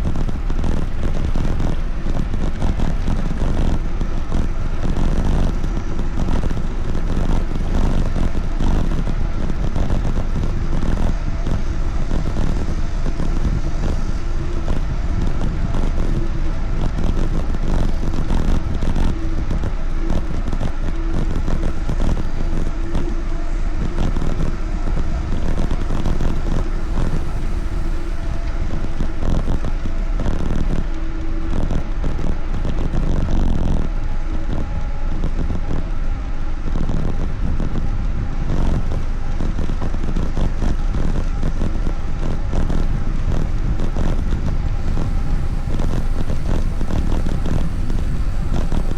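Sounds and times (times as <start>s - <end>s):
road rumble: 0.0s - 33.0s, 33.8s - 48.9s
wind on microphone: 0.0s - 48.9s.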